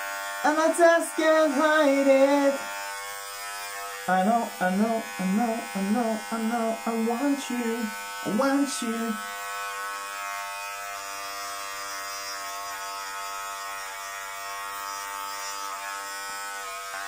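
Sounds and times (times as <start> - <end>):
electric hair clipper running: 0.0 - 17.0.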